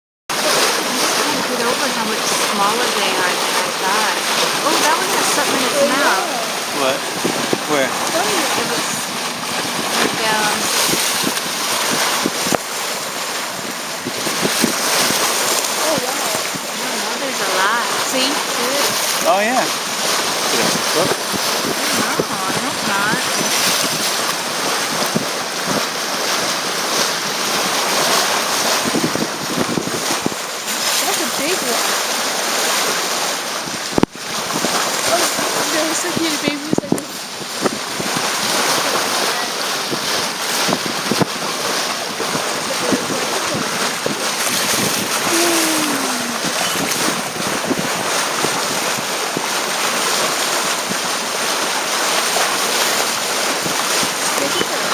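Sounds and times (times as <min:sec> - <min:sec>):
water rushing along boat bow: 0:00.3 - 0:54.9
wind buffeting microphone: 0:00.3 - 0:54.9.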